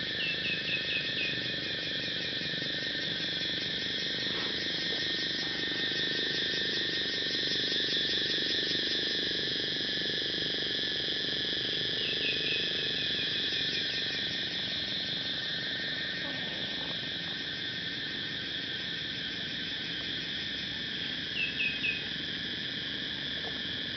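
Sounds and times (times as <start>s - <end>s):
insects chirring: 0.0s - 23.9s.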